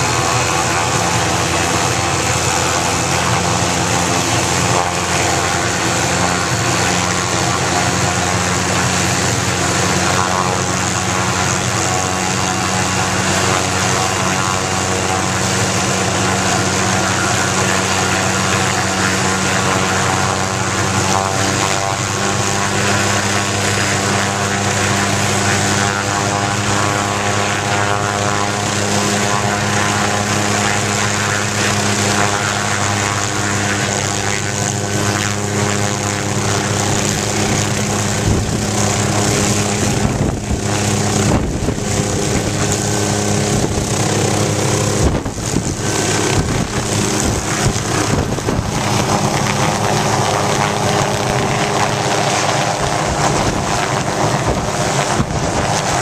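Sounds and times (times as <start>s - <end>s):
helicopter engine hum and whine: 0.0s - 56.0s
rotor wash buffeting microphone: 0.0s - 56.0s.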